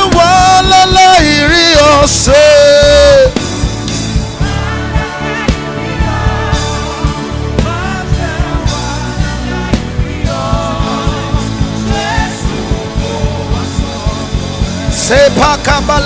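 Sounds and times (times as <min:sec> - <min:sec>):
gospel band playing: 0:00.0 - 0:16.0.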